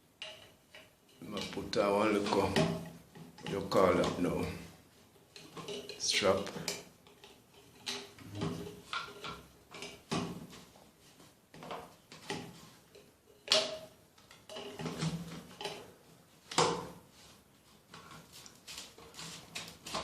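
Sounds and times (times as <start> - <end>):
plumbing tools knocking and scraping: 0.2 - 10.8, 11.5 - 17.0, 17.9 - 20.0.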